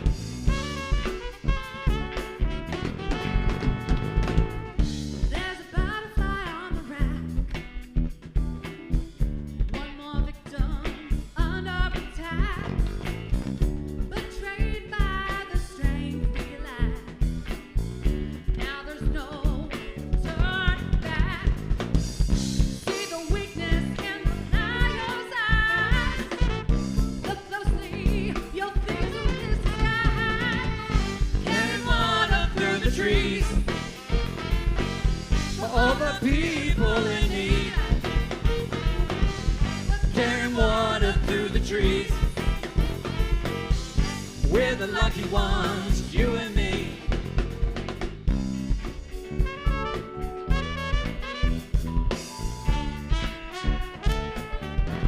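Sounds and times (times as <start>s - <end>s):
bass: 0.0s - 55.0s
drum kit beat: 0.0s - 55.0s.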